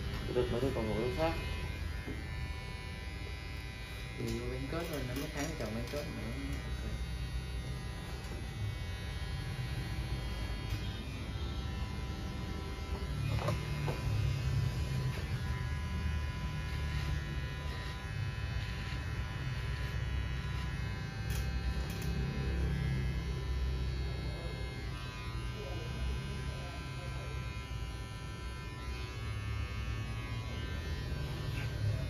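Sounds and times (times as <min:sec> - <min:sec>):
electric hair clippers buzzing: 0:00.0 - 0:32.0.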